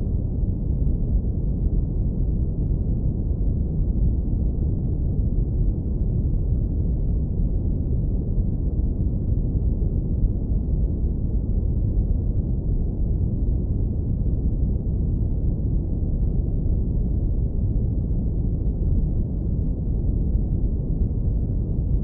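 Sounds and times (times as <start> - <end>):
deep brown noise rumble: 0.0 - 22.0.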